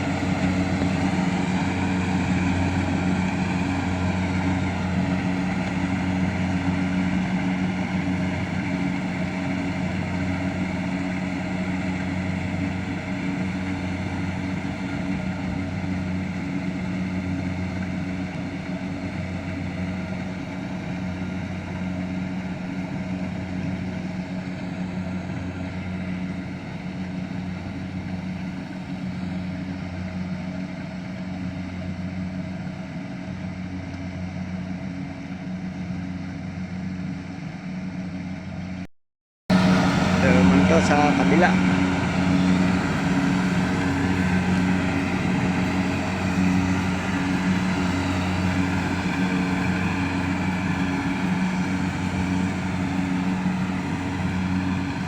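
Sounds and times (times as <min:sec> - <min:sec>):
engine droning steadily: 0:00.0 - 0:38.9, 0:39.5 - 0:55.0.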